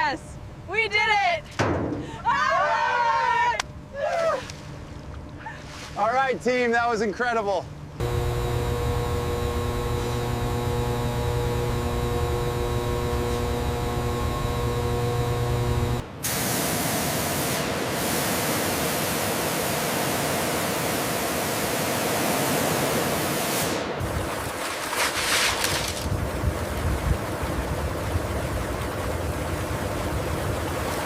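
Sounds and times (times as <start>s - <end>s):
machinery hum: 0.0s - 24.6s, 25.9s - 31.0s.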